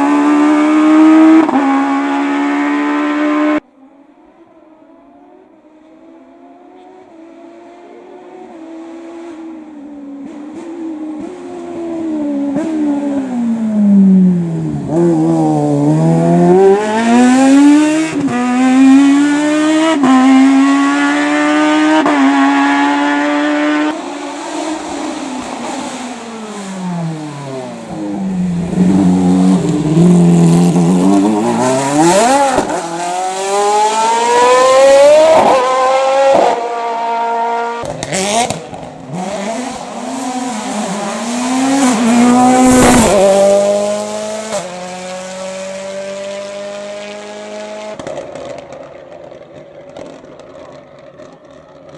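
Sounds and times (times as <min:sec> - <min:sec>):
race car engine revving through gears: 0:00.0 - 0:51.9.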